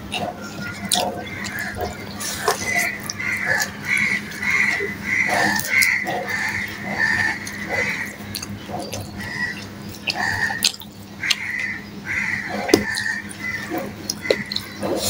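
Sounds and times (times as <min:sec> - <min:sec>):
wet chewing and lip-smacking: 0:00.0 - 0:11.8, 0:12.5 - 0:15.0.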